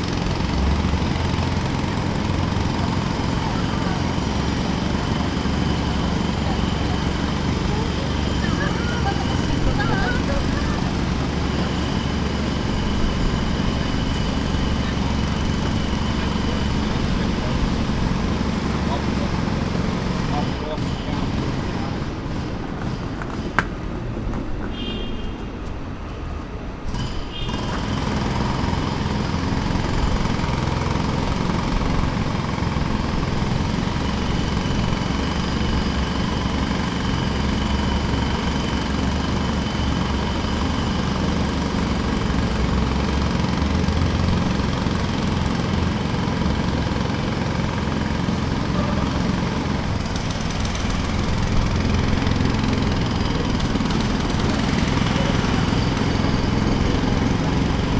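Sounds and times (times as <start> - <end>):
jackhammer pounding: 0.0 - 24.2, 26.7 - 57.9
engine noise: 0.0 - 57.9.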